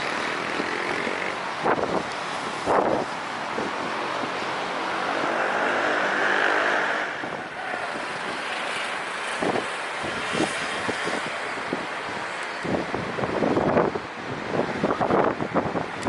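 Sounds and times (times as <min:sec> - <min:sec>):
aircraft engine rushing: 0:00.0 - 0:14.0
wind buffeting microphone: 0:00.0 - 0:16.0.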